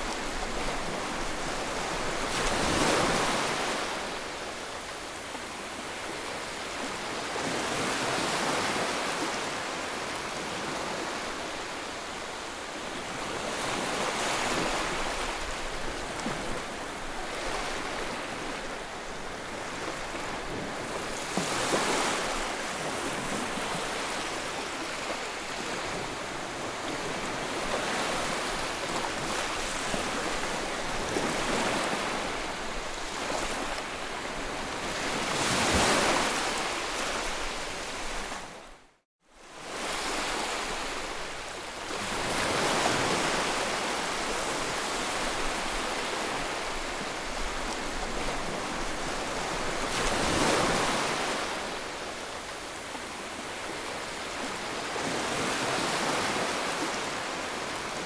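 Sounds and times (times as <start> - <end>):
ocean waves breaking: 0.0 - 11.7, 13.0 - 38.6, 39.6 - 58.0.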